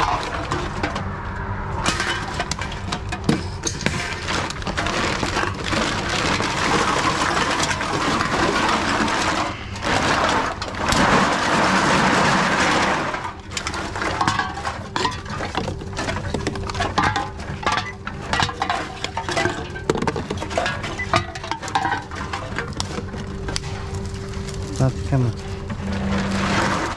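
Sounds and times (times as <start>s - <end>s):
faint steady hum: 0.0s - 26.9s
vending machine mechanical noise: 0.0s - 26.9s
cans and bottles clinking: 1.9s - 26.9s.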